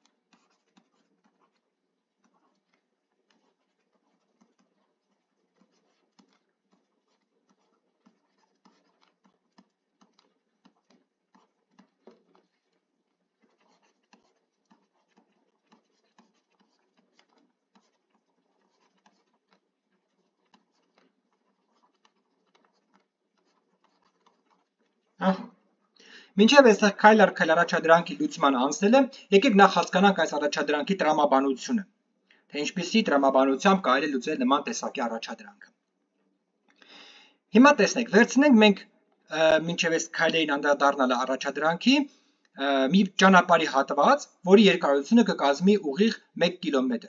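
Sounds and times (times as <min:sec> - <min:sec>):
stylus scratching on tablet: 0:00.0 - 0:35.8, 0:37.4 - 0:47.0.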